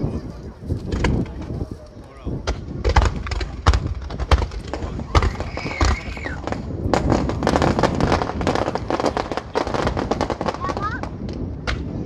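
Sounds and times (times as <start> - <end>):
fireworks crackling: 0.3 - 12.0
fireworks banging: 0.8 - 12.0.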